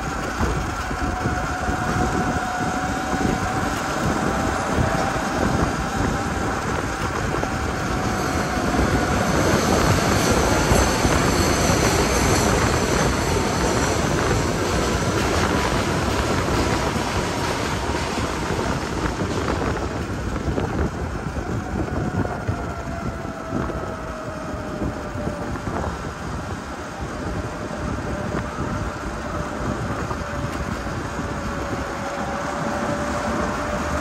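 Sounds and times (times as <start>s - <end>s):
road and traffic noise: 0.0s - 34.0s
wind rushing over microphone: 0.0s - 34.0s.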